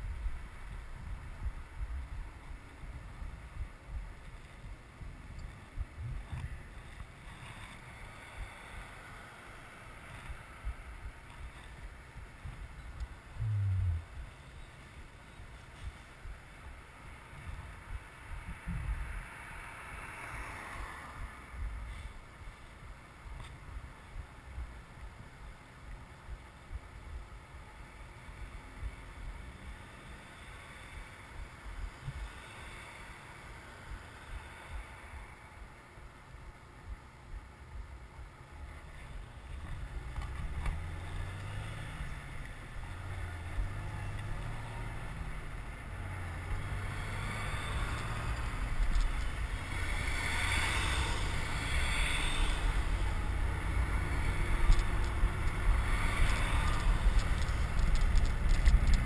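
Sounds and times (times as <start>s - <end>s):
road and traffic noise: 0.0s - 59.0s
wind rushing over microphone: 0.0s - 59.0s.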